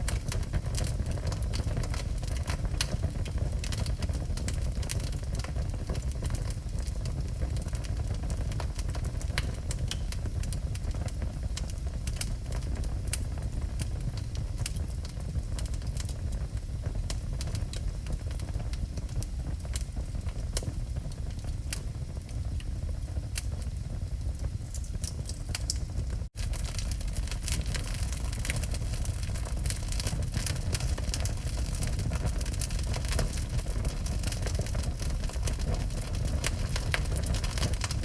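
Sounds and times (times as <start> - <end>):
fire flames rumbling: 0.0 - 38.0
logs crackling and popping: 0.0 - 38.0.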